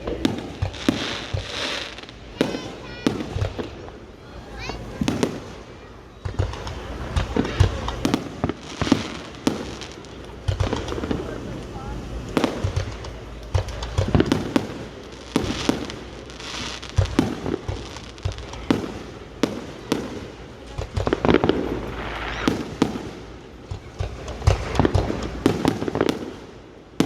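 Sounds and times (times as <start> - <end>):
fireworks bangs and pops: 0.0 - 27.0
fireworks crackling hiss: 0.0 - 27.0.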